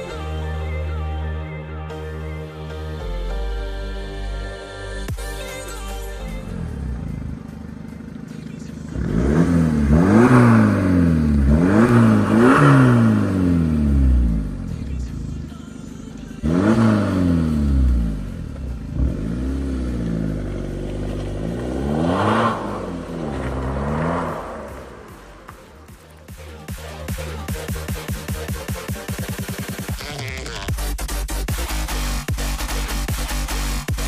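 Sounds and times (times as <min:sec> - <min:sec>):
car pulling away: 0:02.8 - 0:30.9
car engine revving: 0:05.0 - 0:34.0.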